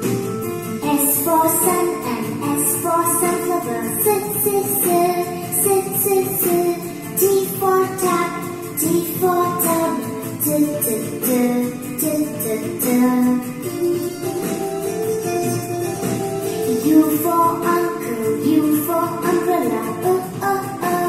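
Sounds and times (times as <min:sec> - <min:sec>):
children's song from television: 0:00.0 - 0:21.0.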